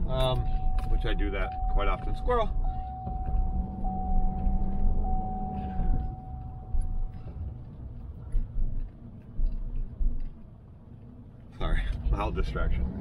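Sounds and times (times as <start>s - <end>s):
truck engine and road rumble: 0.0s - 13.0s
thin steady whine: 0.1s - 11.6s.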